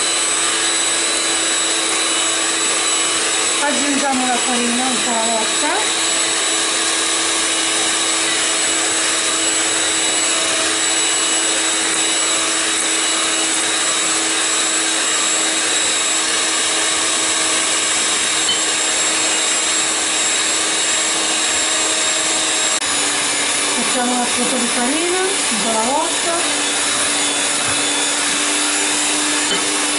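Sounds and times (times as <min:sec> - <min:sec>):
electric hand mixer whining: 0:00.0 - 0:29.9.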